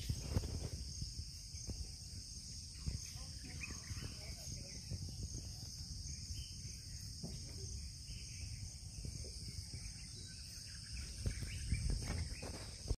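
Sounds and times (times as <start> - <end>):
high-pitched insect chorus: 0.0 - 12.9.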